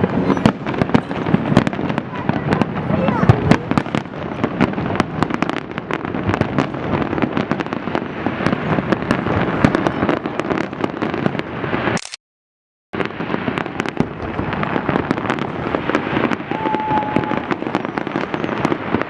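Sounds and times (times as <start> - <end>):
fireworks bangs and crackling: 0.0 - 12.0, 13.0 - 19.0.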